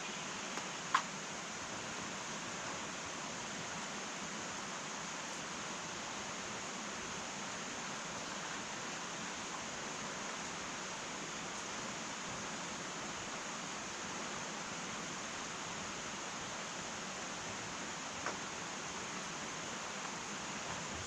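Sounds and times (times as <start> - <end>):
wood fire hissing and crackling: 0.0 - 21.0.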